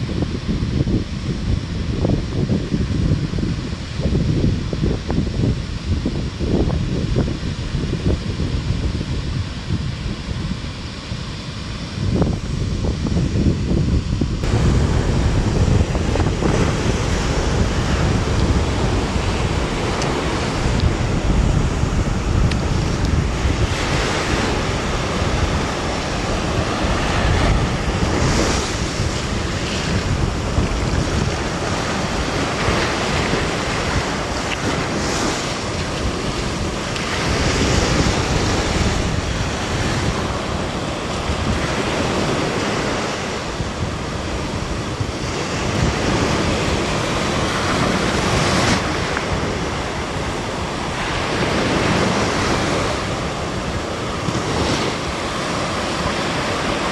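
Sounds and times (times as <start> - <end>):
small waves washing over sand: 0.0 - 56.9
wind buffeting microphone: 0.0 - 56.9.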